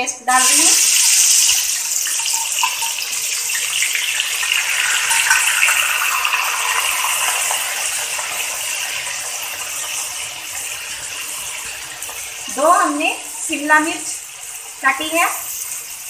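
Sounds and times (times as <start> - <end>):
paste sizzling in hot oil: 0.3 - 16.0.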